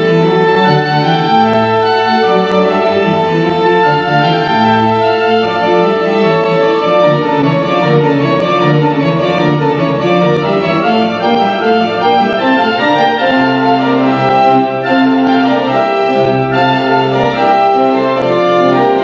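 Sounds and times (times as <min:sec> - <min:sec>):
pipe organ playing chords: 0:00.0 - 0:19.0.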